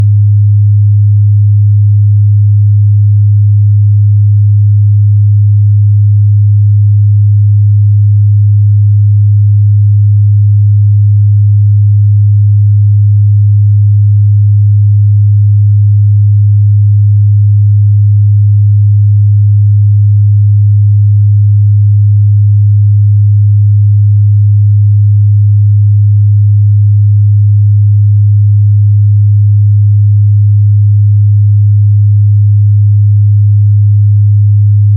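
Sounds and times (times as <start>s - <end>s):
low sine-wave test tone: 0.0s - 34.9s.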